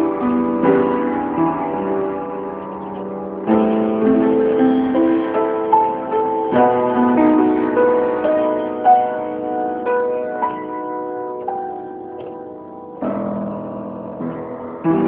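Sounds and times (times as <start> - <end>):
slow piano ballad: 0.0 - 15.0.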